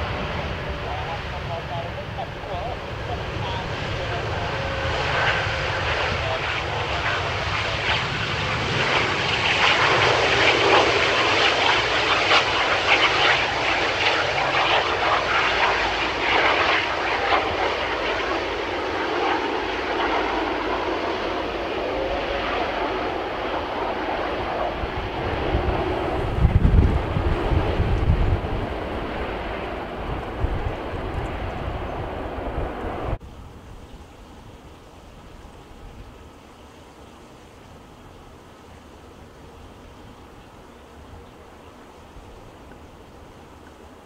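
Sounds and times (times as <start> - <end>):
jet engines at high power: 0.0 - 44.0.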